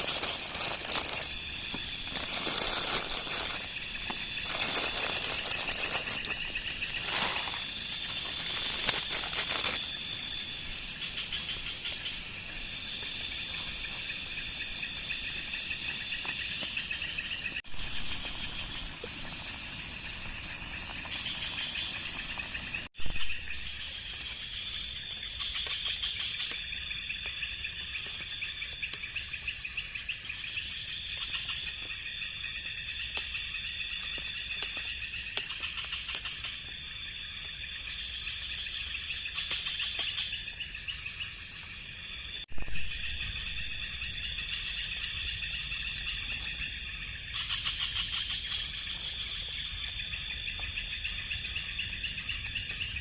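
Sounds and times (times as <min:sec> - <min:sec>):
night insects chirping: 0:00.0 - 0:53.0.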